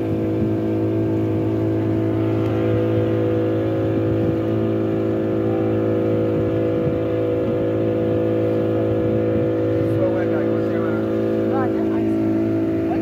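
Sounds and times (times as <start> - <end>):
outboard motor drone: 0.0 - 13.0
water rushing along hull: 0.0 - 13.0.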